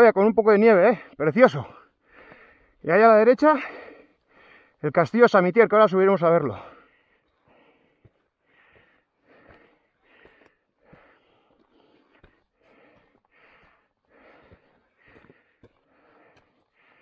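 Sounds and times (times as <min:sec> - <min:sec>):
man panting heavily: 0:01.0 - 0:02.8, 0:03.4 - 0:04.8, 0:06.5 - 0:17.0.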